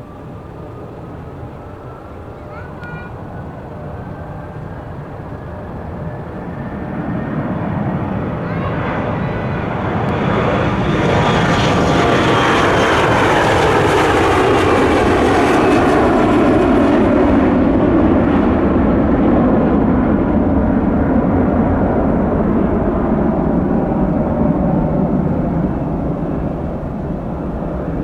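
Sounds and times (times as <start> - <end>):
jet passing at takeoff power: 0.0 - 28.0.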